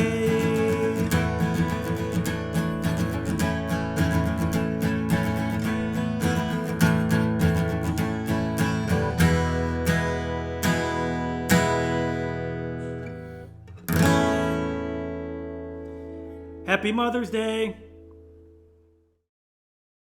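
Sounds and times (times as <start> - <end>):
acoustic guitar strumming: 0.0 - 18.9.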